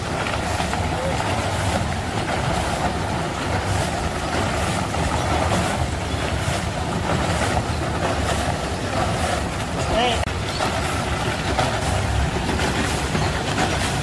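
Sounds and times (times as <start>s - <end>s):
high traffic hiss: 0.0s - 14.0s
low engine rumble: 0.0s - 14.0s.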